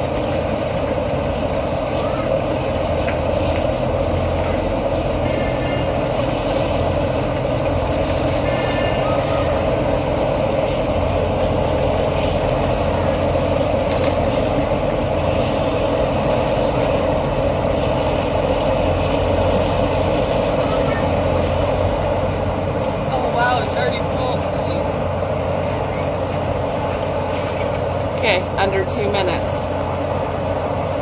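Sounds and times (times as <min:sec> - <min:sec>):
road milling machine grinding asphalt: 0:00.0 - 0:31.0.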